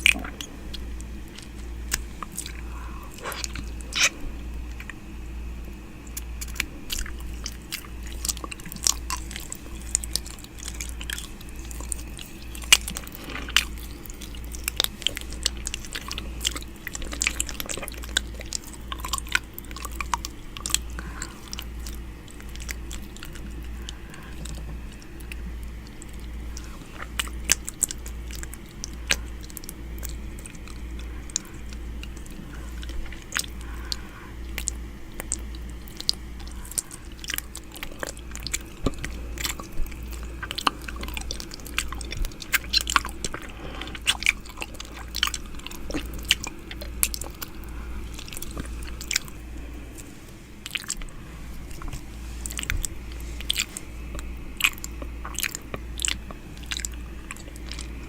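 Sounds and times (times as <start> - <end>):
low pulsing hum: 0.0 - 58.0.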